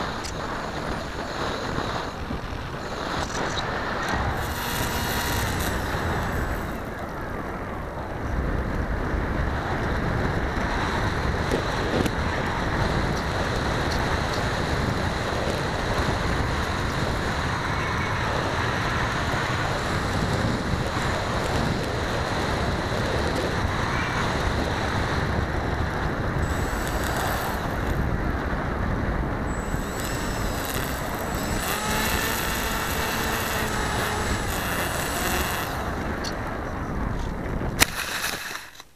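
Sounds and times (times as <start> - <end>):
wind buffeting microphone: 0.0 - 38.6
faint steady whine: 0.0 - 38.9.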